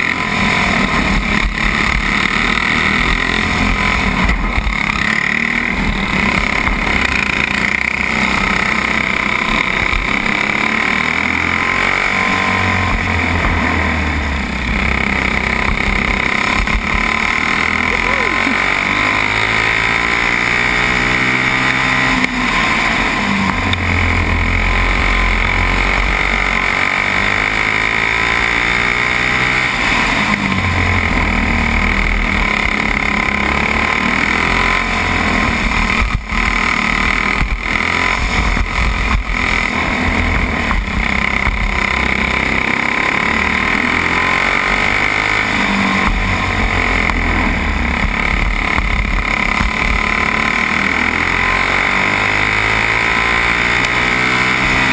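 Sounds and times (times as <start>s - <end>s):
racing kart engine: 0.0s - 54.9s.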